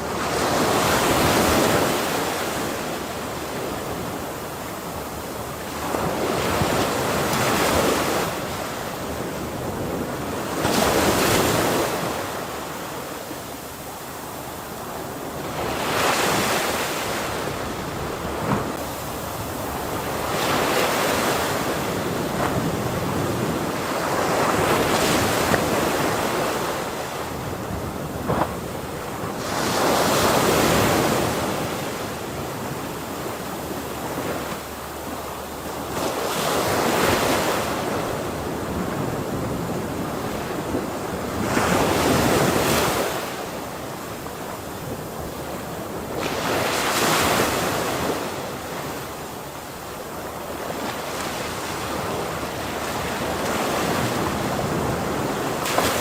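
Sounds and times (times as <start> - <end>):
ocean waves breaking on shore: 0.0 - 56.0
wind on microphone: 0.0 - 56.0.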